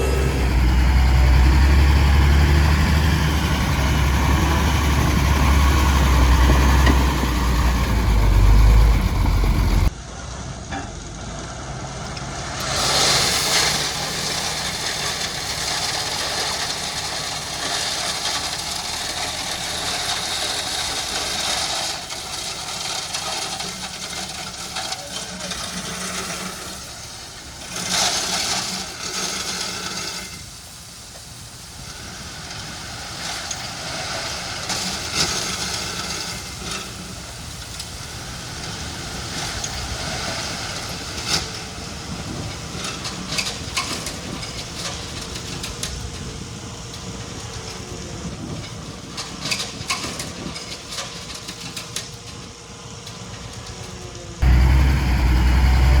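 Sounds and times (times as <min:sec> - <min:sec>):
heavy machine engine running: 0:00.0 - 0:10.0, 0:11.8 - 0:56.0.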